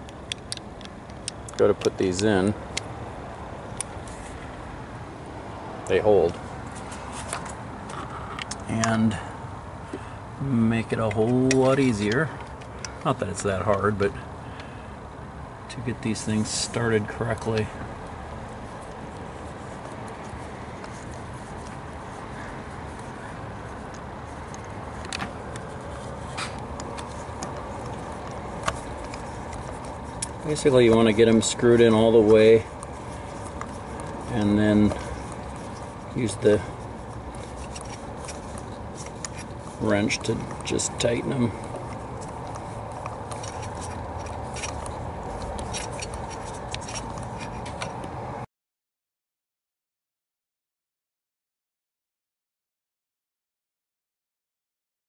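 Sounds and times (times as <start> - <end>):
steady background noise: 0.0 - 48.4
steady low hum: 0.0 - 48.4.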